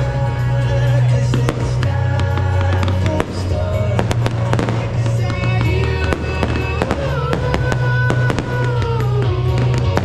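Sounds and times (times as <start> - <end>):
fireworks bangs: 0.0 - 10.0
music with steady bass: 0.0 - 10.0.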